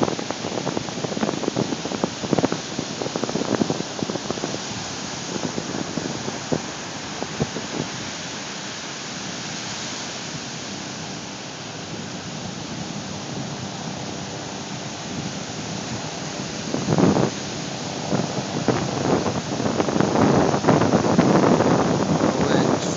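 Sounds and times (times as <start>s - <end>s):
surf rumble: 0.0s - 22.9s
waves breaking: 0.0s - 22.9s.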